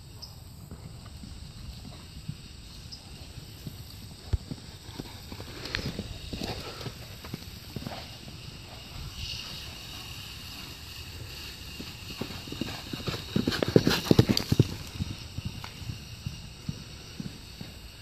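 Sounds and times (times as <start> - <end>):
horse hooves trotting on dirt: 0.0 - 18.0.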